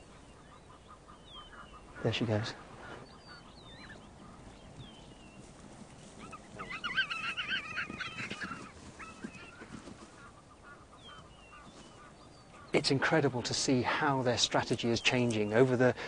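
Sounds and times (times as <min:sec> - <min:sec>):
faint bird chirps: 0:00.0 - 0:13.1
zebra braying: 0:00.0 - 0:15.8.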